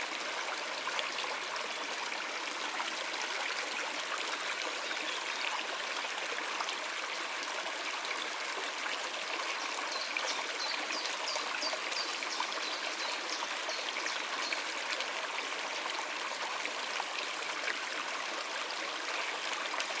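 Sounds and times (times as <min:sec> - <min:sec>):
stream flowing over rocks: 0:00.0 - 0:20.0.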